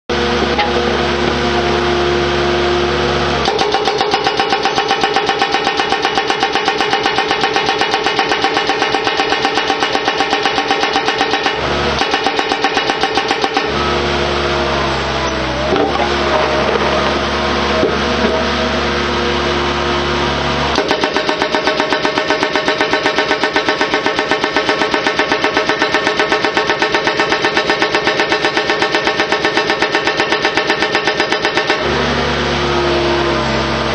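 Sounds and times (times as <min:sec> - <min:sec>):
machine engine running: 0:00.1 - 0:33.9
hydraulic hammer pounding: 0:03.4 - 0:19.8, 0:20.5 - 0:33.9.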